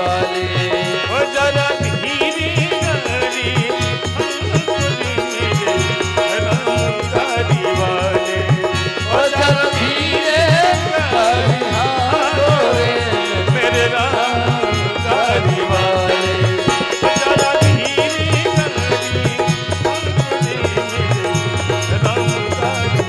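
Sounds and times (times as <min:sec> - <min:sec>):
held melodic tones: 0:00.0 - 0:23.0
person singing: 0:00.0 - 0:23.0
rattling percussion: 0:00.0 - 0:23.0
hand drum beating: 0:00.6 - 0:23.0.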